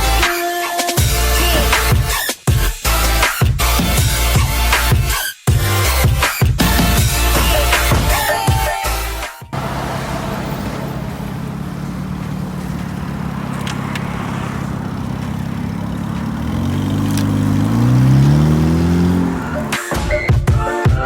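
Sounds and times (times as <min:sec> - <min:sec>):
car engine running and revving: 0:01.0 - 0:05.1, 0:05.8 - 0:20.4.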